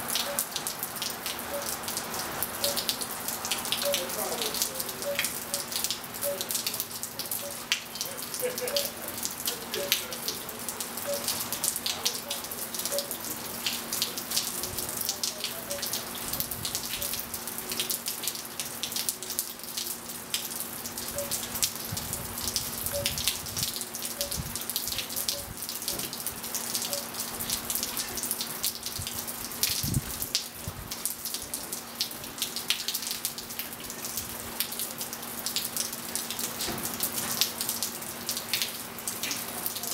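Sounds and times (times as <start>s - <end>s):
rain pattering on pool and patio: 0.0s - 39.9s.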